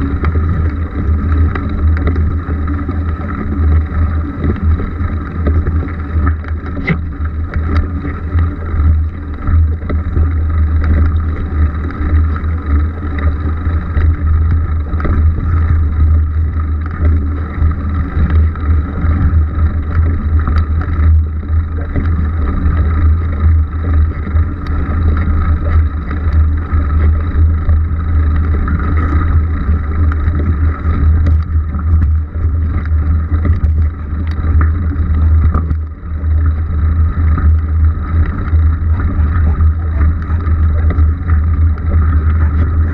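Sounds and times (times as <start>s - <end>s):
bike tyre and frame noise: 0.0s - 42.9s.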